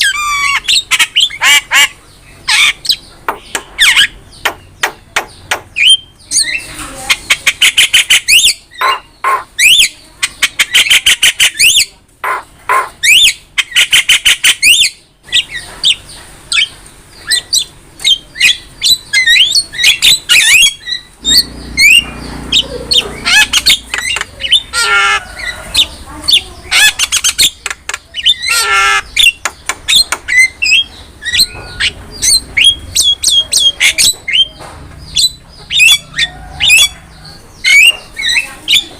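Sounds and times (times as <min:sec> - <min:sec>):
bird harsh squawks: 0:00.0 - 0:03.1, 0:05.8 - 0:34.6, 0:35.2 - 0:38.9
bird singing: 0:00.0 - 0:38.9.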